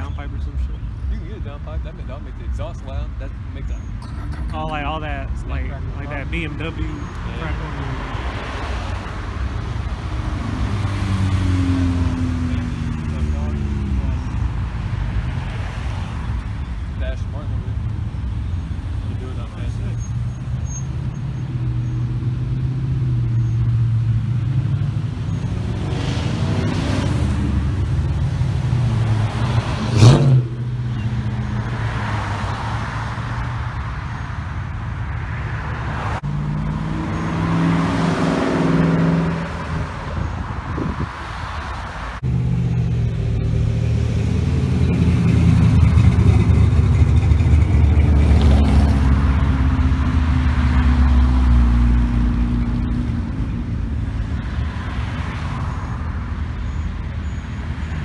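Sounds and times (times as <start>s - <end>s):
car engines accelerating: 0.0s - 58.0s.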